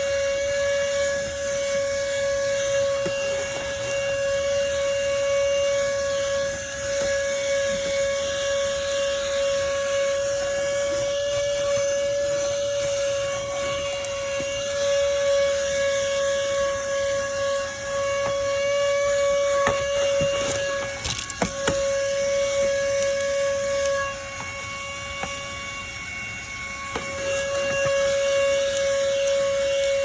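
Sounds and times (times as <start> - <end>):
handheld vacuum running: 0.0 - 30.0.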